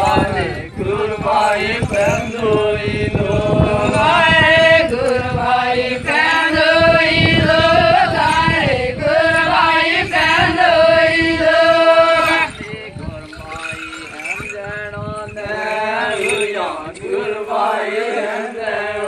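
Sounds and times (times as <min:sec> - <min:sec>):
women singing in unison: 0:00.0 - 0:13.4, 0:14.3 - 0:19.0.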